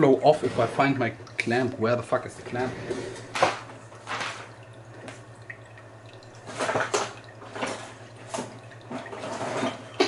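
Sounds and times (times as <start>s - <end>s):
electric water pump humming: 0.0s - 10.0s.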